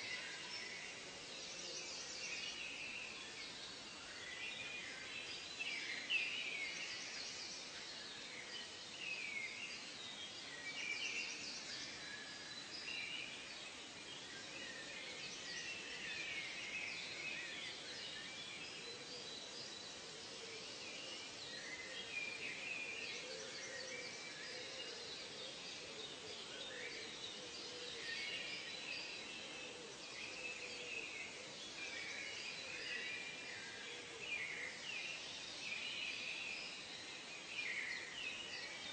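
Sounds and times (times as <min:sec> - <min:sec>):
soft background hiss: 0:00.0 - 0:38.9.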